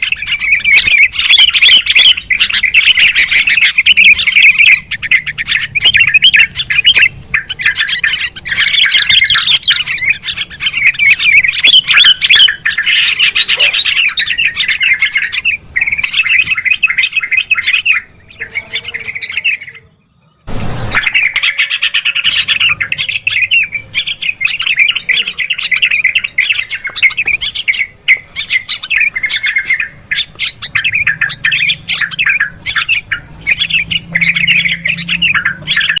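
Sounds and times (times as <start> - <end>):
bulbuls chattering and chirping: 0.0 - 36.0.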